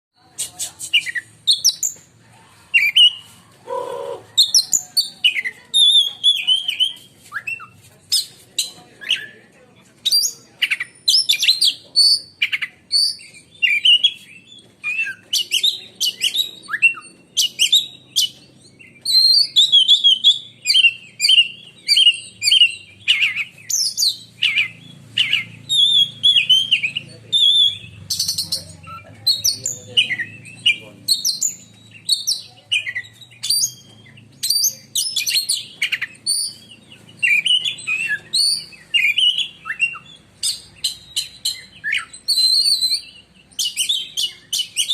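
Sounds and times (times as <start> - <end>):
bird singing shrill song: 0.2 - 2.0, 2.8 - 9.4, 10.0 - 44.9.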